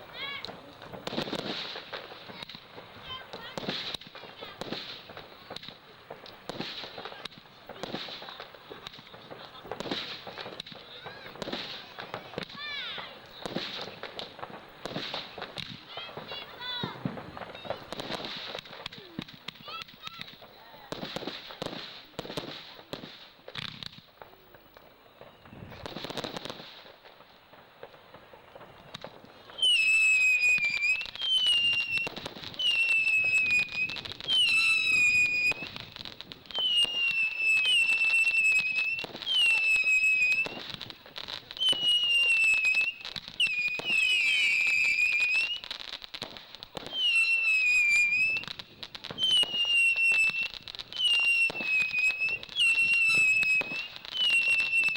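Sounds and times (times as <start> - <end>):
firework crackling pops: 0.0 - 54.9
whistling firework screeching: 0.0 - 54.9.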